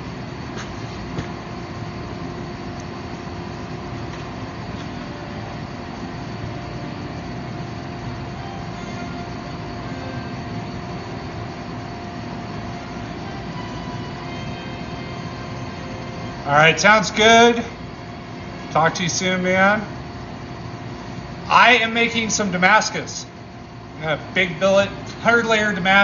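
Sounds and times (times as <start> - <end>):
hydraulic press humming: 0.0 - 26.0.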